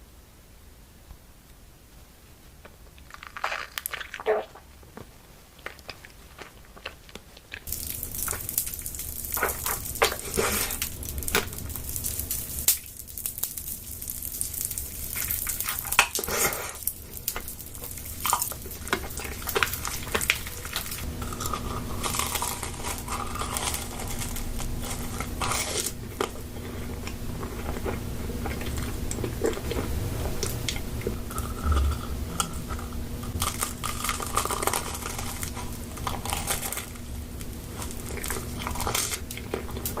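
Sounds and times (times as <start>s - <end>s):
biting and chewing crunchy food: 3.0s - 40.0s.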